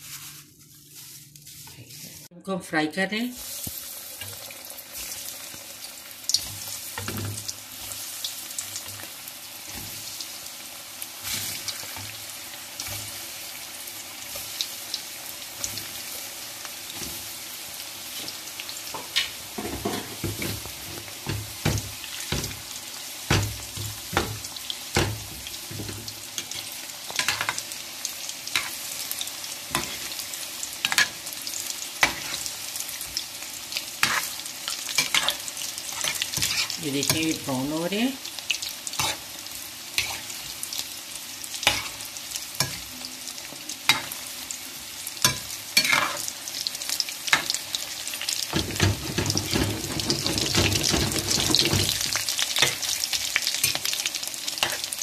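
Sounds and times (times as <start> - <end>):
deep-frying sizzle in oil: 3.0 - 55.0.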